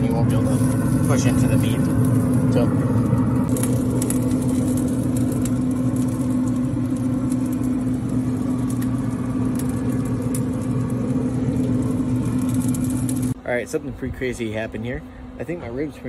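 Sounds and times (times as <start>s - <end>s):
grill fan motor hum: 0.0s - 16.0s.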